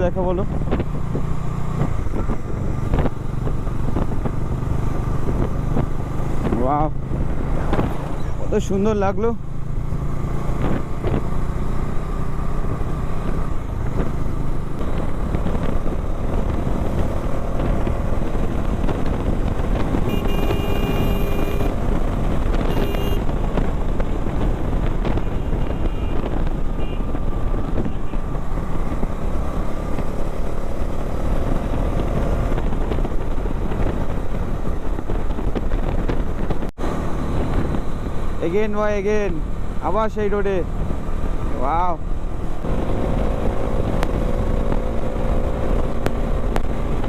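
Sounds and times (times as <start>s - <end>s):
riding wind noise: 0.0s - 47.0s.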